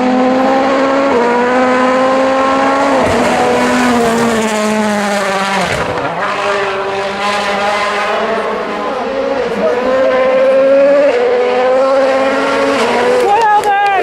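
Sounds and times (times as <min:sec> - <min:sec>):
rally car engine running hard: 0:00.0 - 0:13.4.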